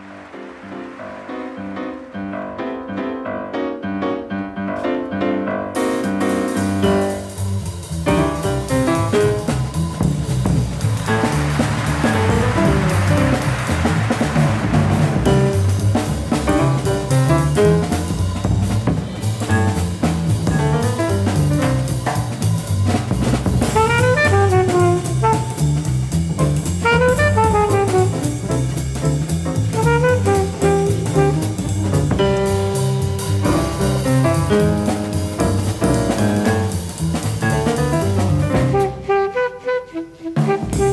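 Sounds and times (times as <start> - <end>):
quick piano runs: 0.0 - 39.1
jazz quartet playing: 4.9 - 40.9.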